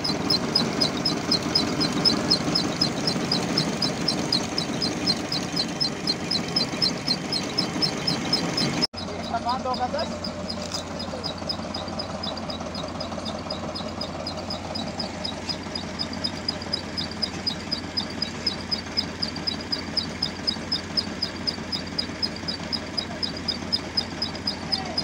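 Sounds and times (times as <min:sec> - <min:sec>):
high even ticking: 0:00.0 - 0:25.0
tractor engine running: 0:00.0 - 0:25.0.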